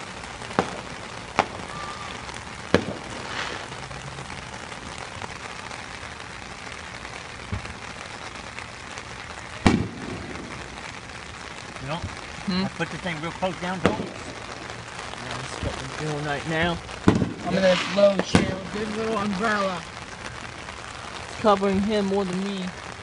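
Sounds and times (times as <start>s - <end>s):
fireworks bursting: 0.0s - 23.0s
rain pattering: 0.0s - 23.0s.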